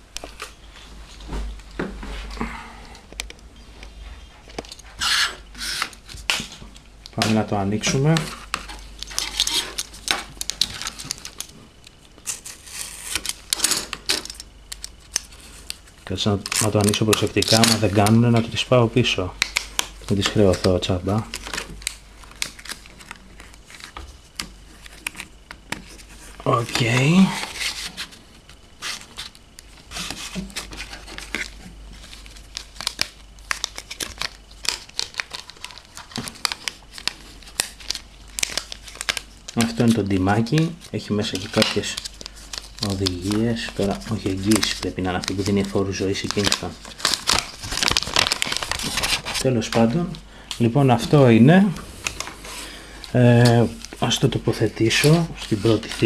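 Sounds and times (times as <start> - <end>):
plastic packaging crackling: 5.7 - 56.0.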